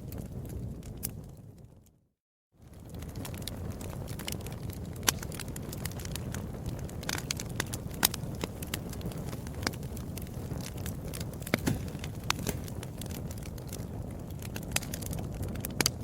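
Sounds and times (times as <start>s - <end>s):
fire crackling in fireplace: 0.0s - 2.0s, 2.6s - 16.0s
sharp pops of burning wood: 2.7s - 16.0s.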